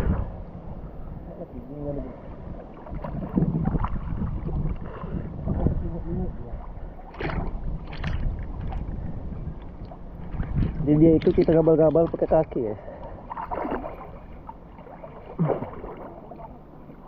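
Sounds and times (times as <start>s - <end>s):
low rumble of moving water: 0.0s - 17.0s
water sloshing and splashing: 2.4s - 17.0s.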